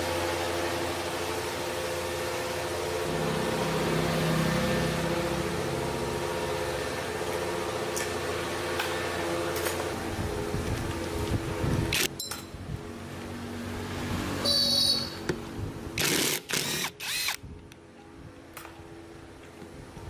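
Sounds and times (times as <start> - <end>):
machine humming and hissing: 0.0 - 17.5.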